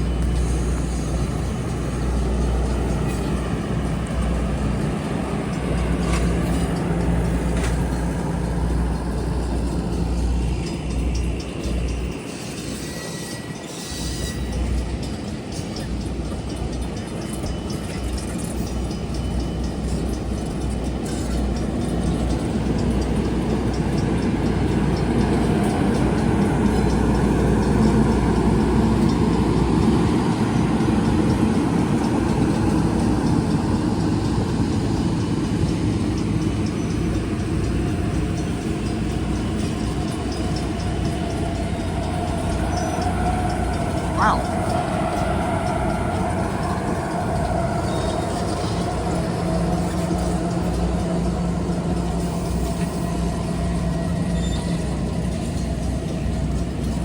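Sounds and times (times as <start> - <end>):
train rumbling by: 0.0 - 57.0.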